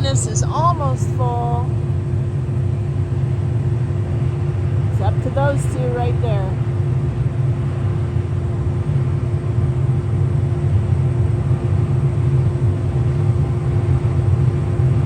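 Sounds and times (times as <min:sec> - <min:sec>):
combine harvester drone: 0:00.0 - 0:15.0
constant hum: 0:00.0 - 0:15.0.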